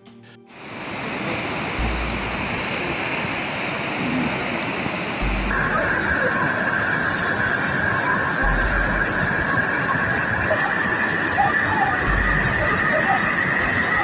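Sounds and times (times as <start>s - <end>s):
water rushing: 0.6s - 14.0s
low rumbles: 0.7s - 13.9s.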